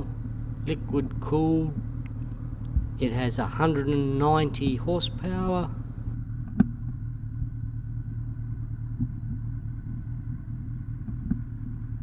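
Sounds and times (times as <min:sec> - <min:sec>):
engine idling rumble: 0:00.0 - 0:12.0.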